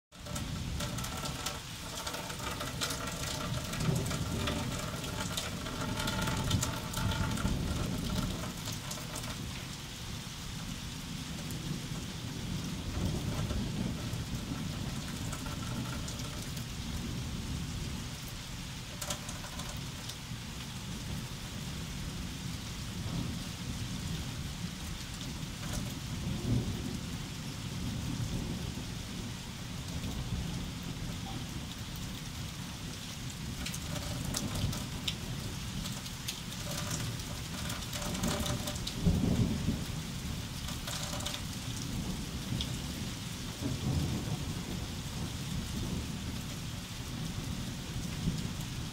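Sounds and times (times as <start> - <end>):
ticking raindrops: 0.0 - 48.9
gusting wind: 0.1 - 48.9
rain hissing: 0.1 - 48.9.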